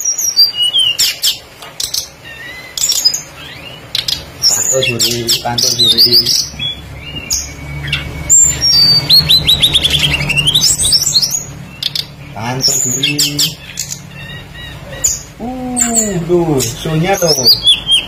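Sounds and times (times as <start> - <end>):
songbird chirping and whistling: 0.0 - 18.0.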